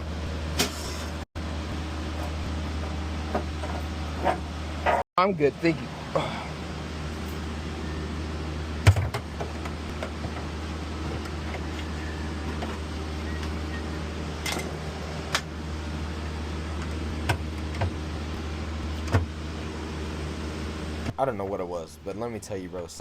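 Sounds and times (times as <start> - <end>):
air-handling equipment humming: 0.0 - 23.0.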